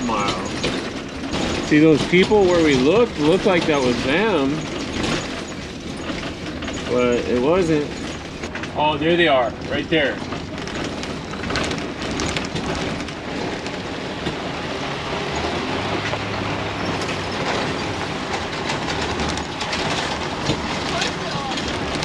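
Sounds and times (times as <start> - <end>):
engine and road drone: 0.0 - 22.0
rattling and clattering: 0.0 - 22.0.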